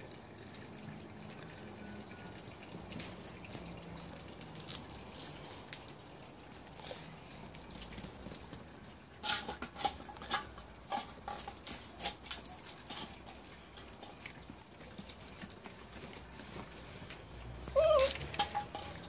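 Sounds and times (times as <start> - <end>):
puppy paws clicking on concrete: 2.6 - 19.0.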